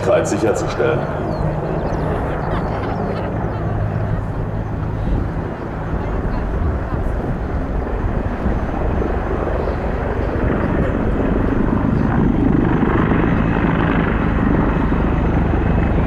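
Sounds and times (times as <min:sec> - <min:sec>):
helicopter rotor beating: 0:00.0 - 0:16.0
turbine engine noise: 0:00.0 - 0:16.0.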